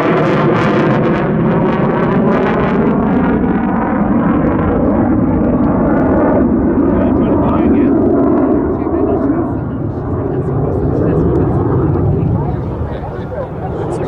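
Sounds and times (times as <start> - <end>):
jet roar: 0.0 - 14.0.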